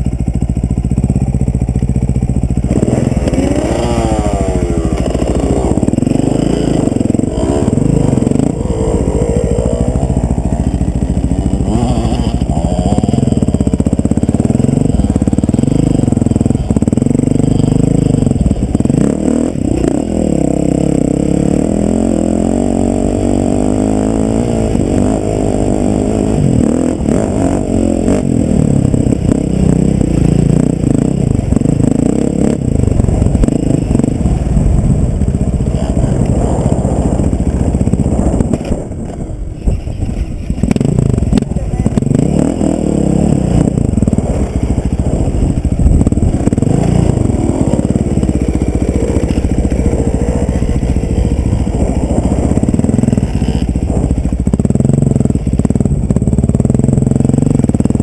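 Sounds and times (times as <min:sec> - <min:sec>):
motorcycle engine under load: 0:00.0 - 0:58.0.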